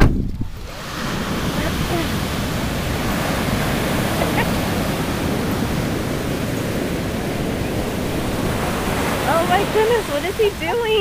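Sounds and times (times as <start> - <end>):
wind on microphone: 0.0 - 11.0
ocean surf breaking: 0.4 - 11.0.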